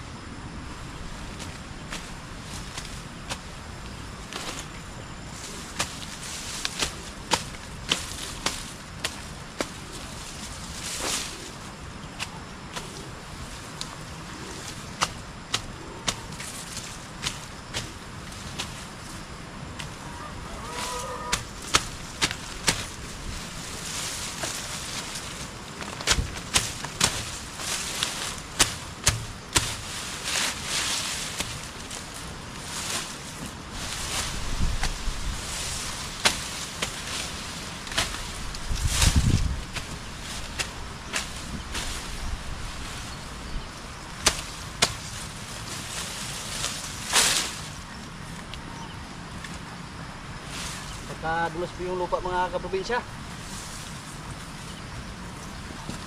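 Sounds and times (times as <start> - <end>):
leaves rustling: 0.0 - 56.0
grass stalks being cut: 1.3 - 48.5.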